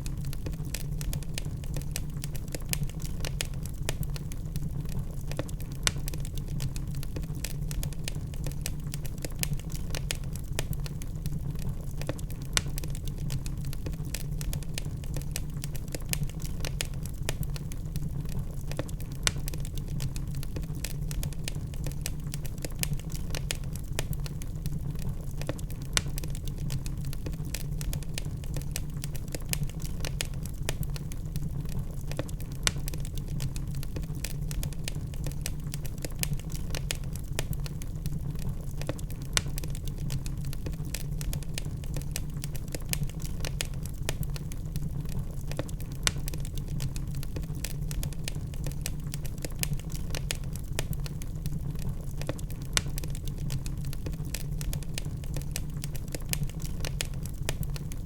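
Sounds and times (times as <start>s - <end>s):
logs burning with crackles: 0.0s - 58.0s.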